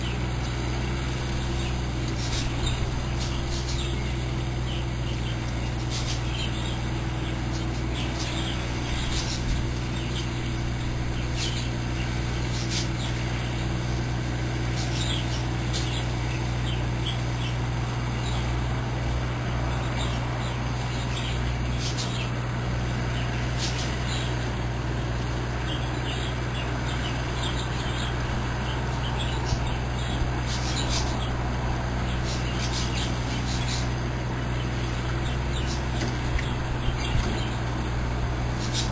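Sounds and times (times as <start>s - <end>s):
small bird chirping: 0.0s - 24.6s, 25.2s - 38.9s
steady low hum: 0.0s - 38.9s.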